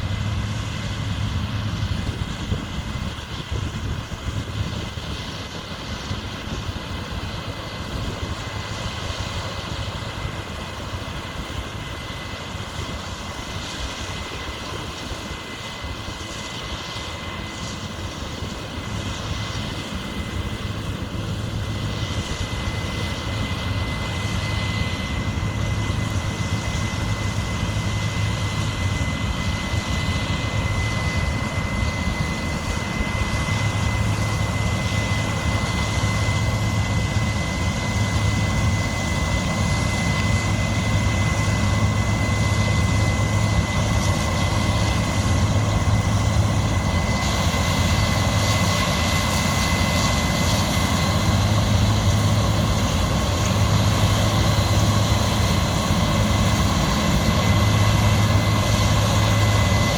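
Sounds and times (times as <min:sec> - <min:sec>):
farm machinery engine hum: 0:00.0 - 0:59.9
high machine whine: 0:00.0 - 0:59.9.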